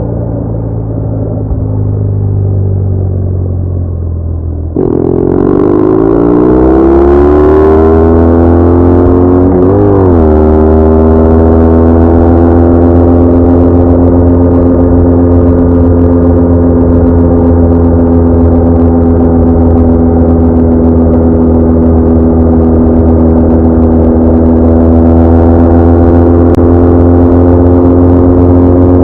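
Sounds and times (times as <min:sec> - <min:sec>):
motorcycle engine running: 0:04.8 - 0:29.0.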